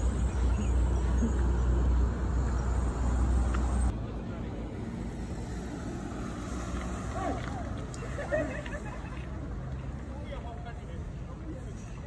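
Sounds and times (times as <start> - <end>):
background noise: 0.0 - 12.0
street traffic rumble: 0.0 - 12.0.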